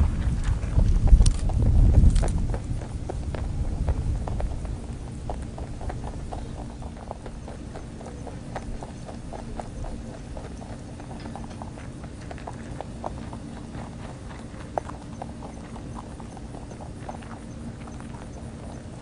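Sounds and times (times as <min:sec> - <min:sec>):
rabbits crunching pellets: 0:00.0 - 0:19.0.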